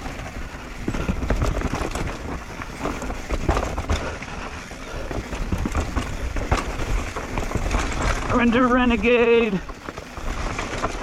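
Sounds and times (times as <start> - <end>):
bike rattling: 0.0 - 11.0
bike tyres rolling on dirt: 0.0 - 11.0
wind rumbling on microphone: 0.0 - 11.0.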